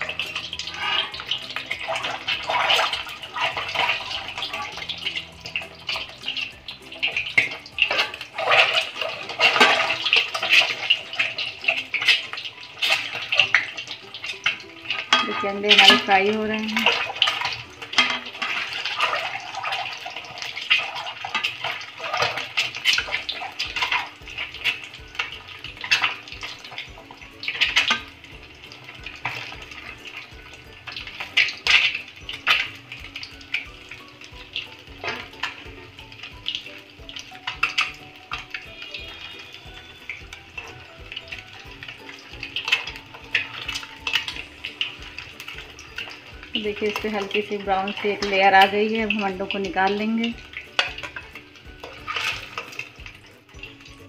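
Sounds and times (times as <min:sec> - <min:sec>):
steel spoon scraping pan: 0:00.0 - 0:48.8, 0:50.4 - 0:53.8
eggs sizzling in hot oil: 0:00.0 - 0:54.0.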